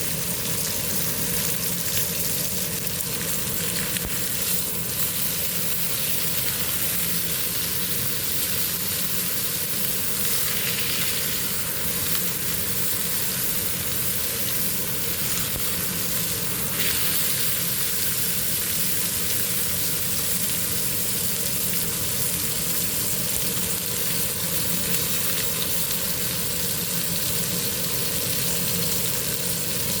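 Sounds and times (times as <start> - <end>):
steak sizzling in a pan: 0.0 - 30.0.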